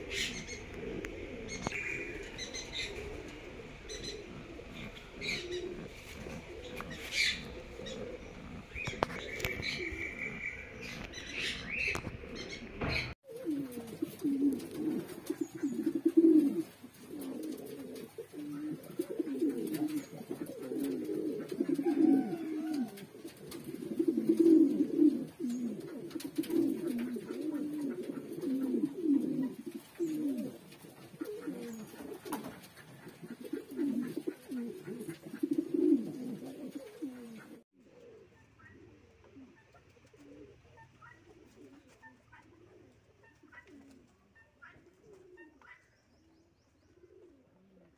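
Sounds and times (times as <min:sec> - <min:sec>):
pigeons cooing: 0:00.0 - 0:47.9.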